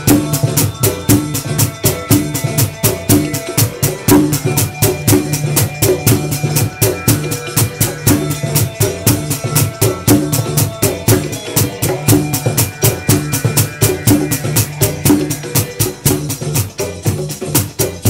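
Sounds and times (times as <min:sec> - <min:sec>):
fast drum and percussion beat: 0:00.0 - 0:18.0
repeating low riff: 0:00.0 - 0:18.0.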